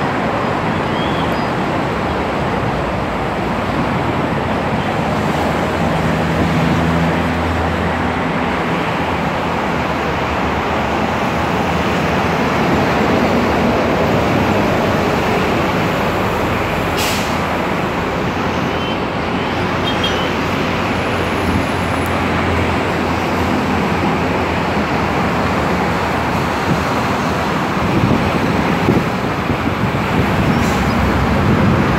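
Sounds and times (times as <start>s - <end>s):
city road traffic rumble: 0.0s - 31.9s.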